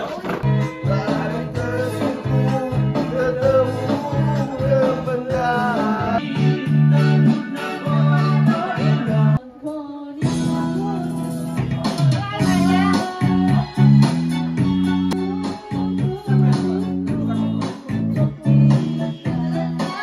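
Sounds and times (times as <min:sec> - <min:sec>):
man singing into microphone: 0:00.0 - 0:13.8, 0:15.5 - 0:20.0
karaoke backing track: 0:00.0 - 0:20.0.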